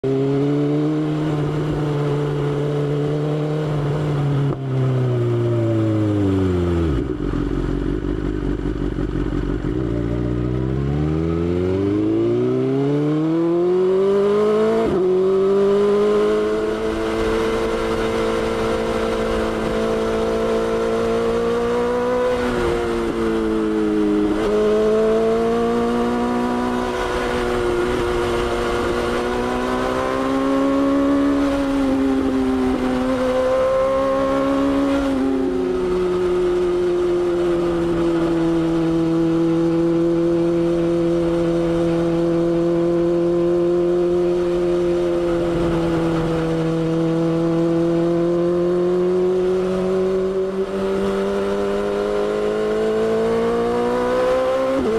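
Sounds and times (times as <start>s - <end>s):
motorcycle engine: 0.0s - 54.9s.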